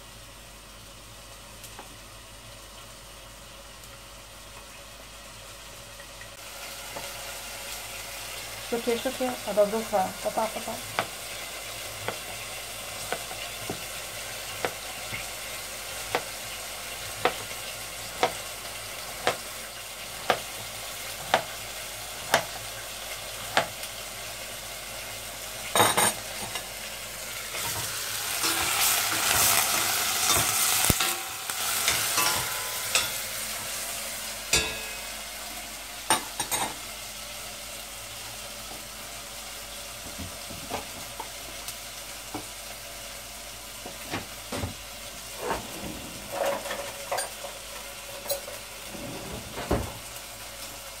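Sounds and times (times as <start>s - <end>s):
meat sizzling in a pan: 0.0s - 45.5s, 46.2s - 48.9s, 49.8s - 51.0s.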